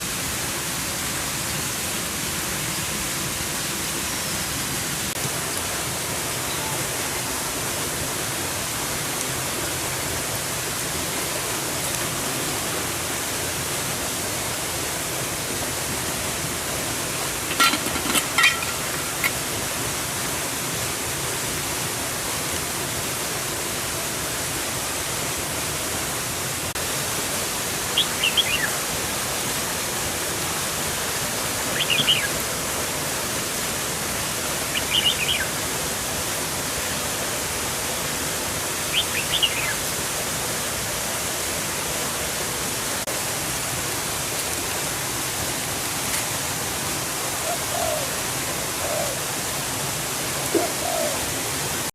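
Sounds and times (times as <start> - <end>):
rushing water or rain: 0.0 - 51.9.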